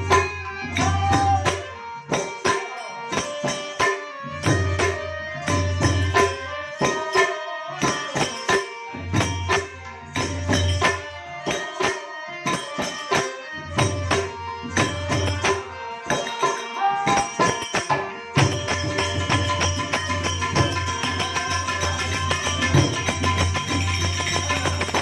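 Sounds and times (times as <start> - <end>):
hand percussion rhythm: 0.0 - 25.0.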